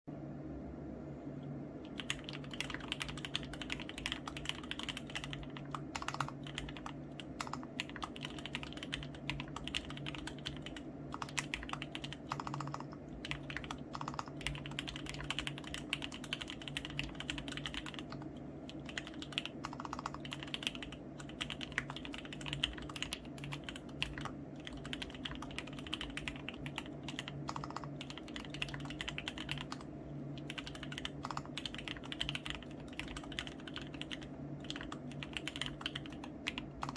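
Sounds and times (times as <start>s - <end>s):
fast typing on mechanical keyboard: 1.8s - 36.9s.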